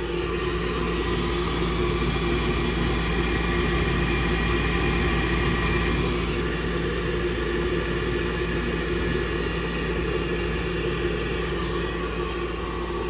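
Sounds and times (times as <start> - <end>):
furnace motor humming: 0.0 - 13.0.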